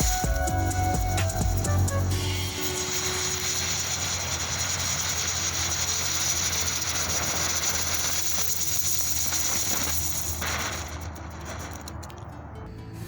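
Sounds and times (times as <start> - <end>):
firework crackling and hissing: 0.0 - 12.6.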